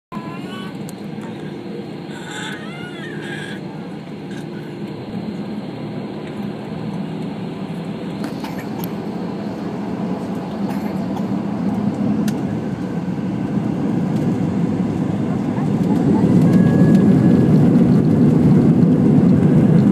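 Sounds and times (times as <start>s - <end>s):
aircraft cabin engine rumble: 0.1s - 19.9s.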